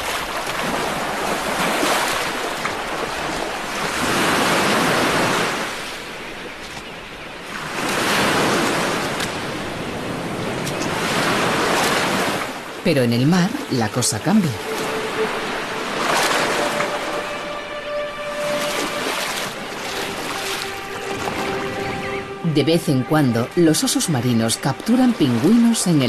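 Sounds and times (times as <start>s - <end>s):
surf washing over rocky shore: 0.0s - 6.5s, 7.6s - 17.5s, 18.3s - 26.0s.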